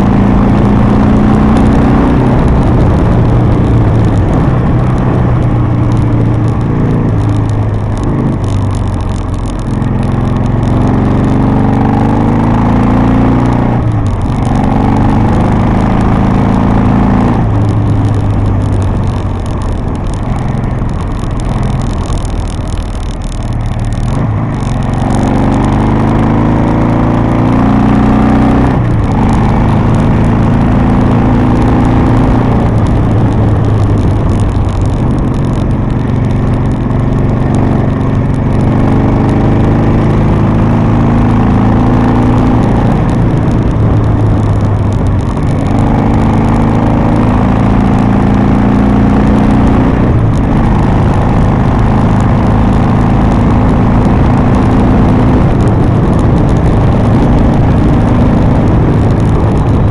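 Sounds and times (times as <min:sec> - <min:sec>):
motorcycle engine running: 0:00.0 - 0:59.9
wind rushing past microphone: 0:00.0 - 0:59.9.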